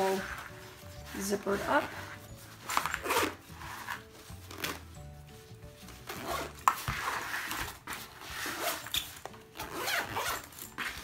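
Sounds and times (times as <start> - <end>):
fabric case rustling: 0.0 - 11.0
quiet background music: 0.0 - 11.0.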